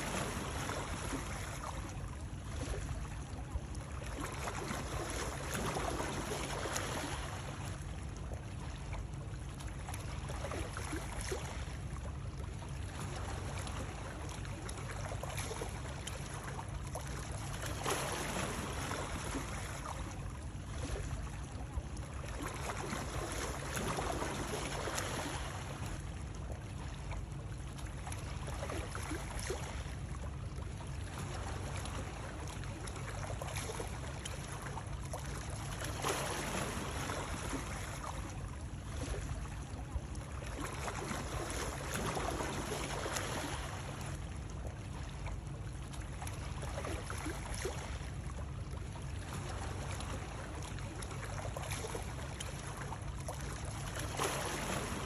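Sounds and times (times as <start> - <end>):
flowing water: 0.0 - 55.0
small water splashes: 0.0 - 55.0.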